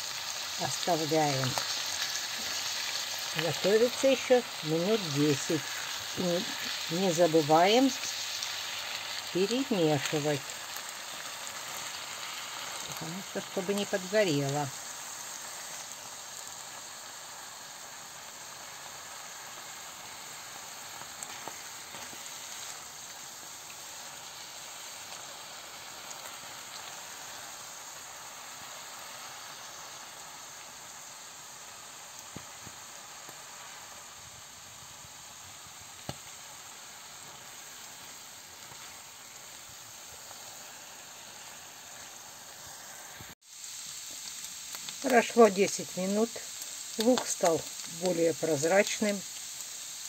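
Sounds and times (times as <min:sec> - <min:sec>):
mushrooms sizzling in a pan: 0:00.0 - 0:50.0.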